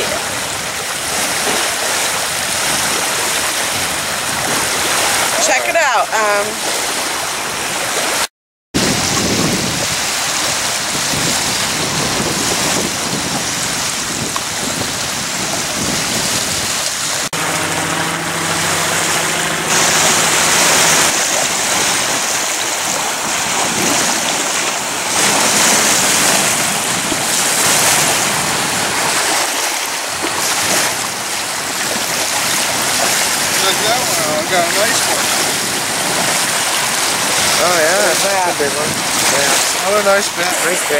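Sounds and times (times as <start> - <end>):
lake waves lapping on shore: 0.0 - 40.9.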